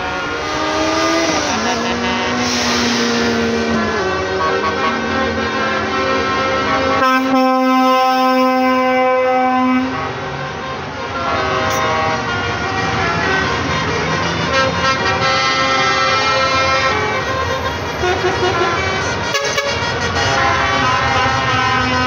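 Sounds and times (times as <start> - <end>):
heavy truck engines running: 0.0 - 22.0
truck horns honking: 0.0 - 22.0.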